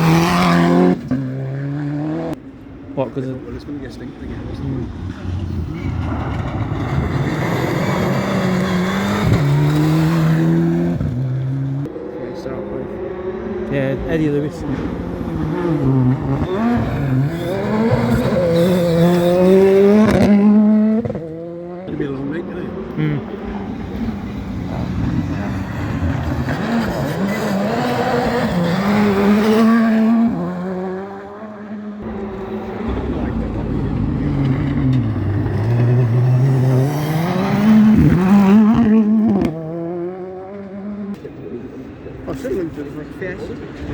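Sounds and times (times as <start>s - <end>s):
rally car engine accelerating: 0.0s - 2.4s, 4.5s - 41.6s.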